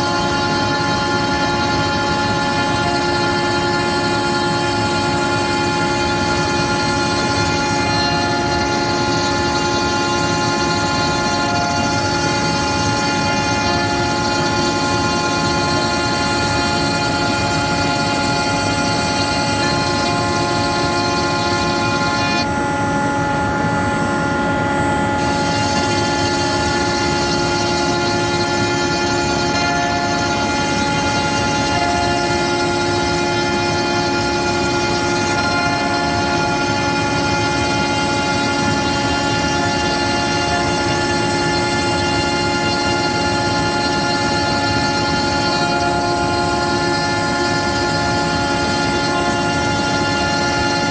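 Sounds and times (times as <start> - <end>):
router spindle cutting wood: 0.0 - 50.9.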